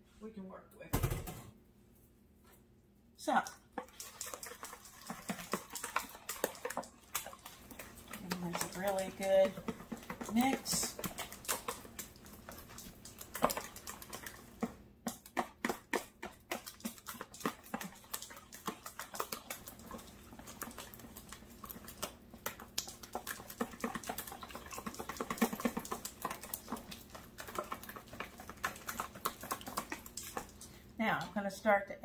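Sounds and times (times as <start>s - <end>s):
whisk clicking against bowl: 3.8s - 30.7s.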